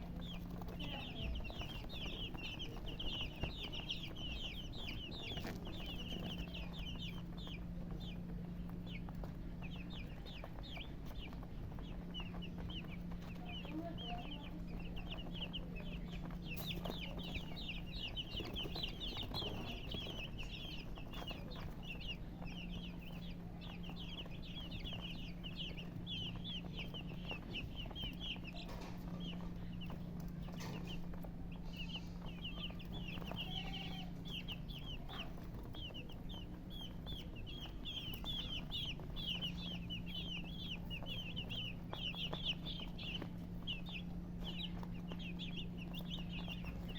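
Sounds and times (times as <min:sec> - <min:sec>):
baby chicks peeping: 0:00.0 - 0:46.9
low steady hum: 0:00.0 - 0:46.9.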